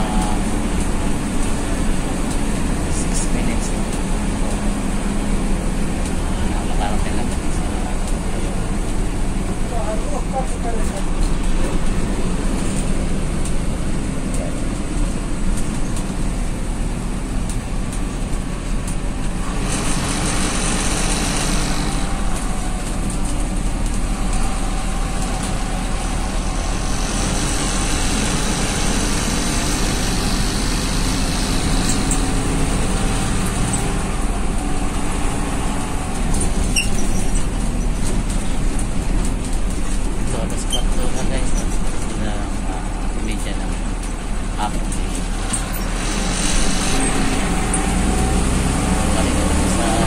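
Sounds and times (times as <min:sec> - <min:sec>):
bus engine and road rumble: 0:00.0 - 0:50.0.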